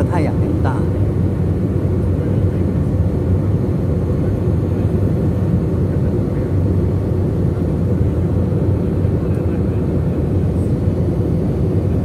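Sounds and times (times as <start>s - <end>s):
jet engine drone in cabin: 0.0s - 12.0s.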